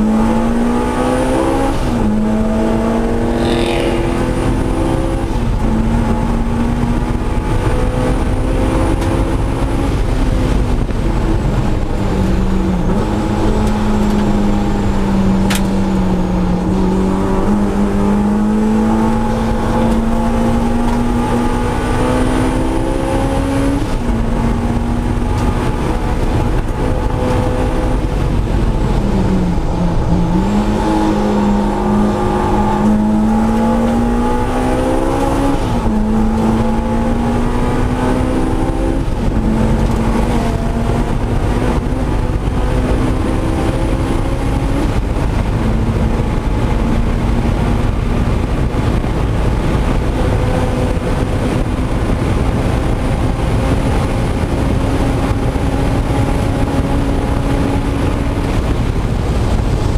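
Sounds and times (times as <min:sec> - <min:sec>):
car engine revving: 0:00.0 - 0:59.9
supercharger whine: 0:00.0 - 0:59.9.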